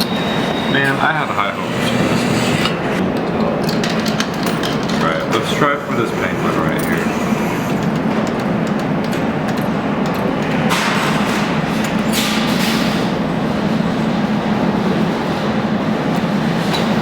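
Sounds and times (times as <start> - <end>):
arcade machine and room noise: 0.0 - 17.0.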